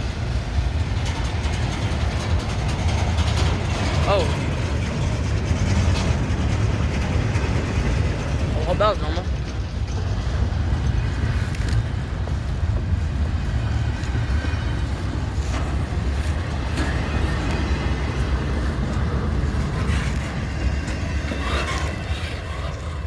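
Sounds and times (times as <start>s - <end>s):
freight train rumbling by: 0.0s - 23.0s
train wheels clanking: 0.0s - 23.0s.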